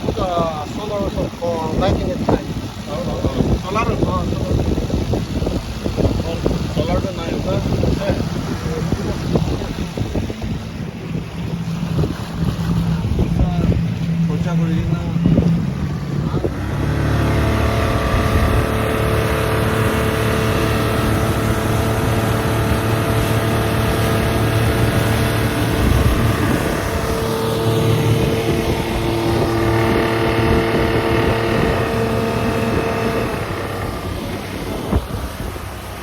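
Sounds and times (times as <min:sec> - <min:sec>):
motorboat engine running: 0:00.0 - 0:36.0
water noise: 0:00.0 - 0:36.0
wind: 0:00.0 - 0:36.0.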